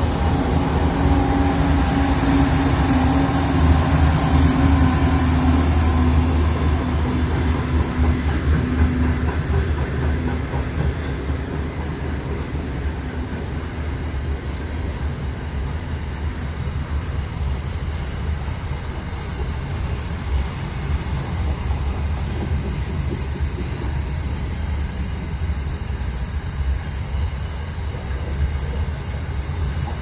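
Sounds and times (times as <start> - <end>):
train passing: 0.0 - 30.0.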